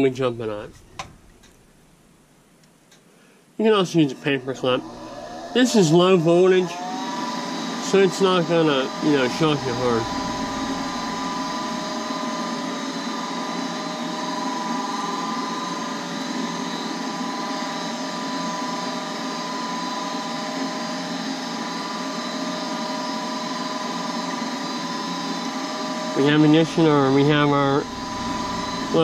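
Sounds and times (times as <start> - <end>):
furnace fan motor whirring: 0.0 - 29.0.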